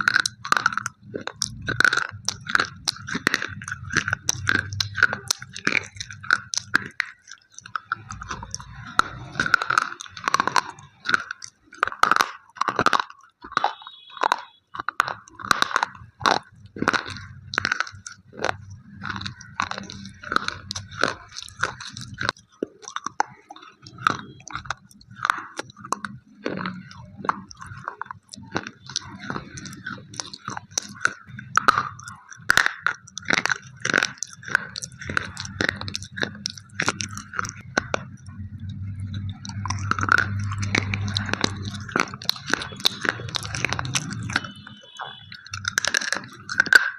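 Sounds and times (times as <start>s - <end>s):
chewing slate pencils: 0.0s - 46.9s.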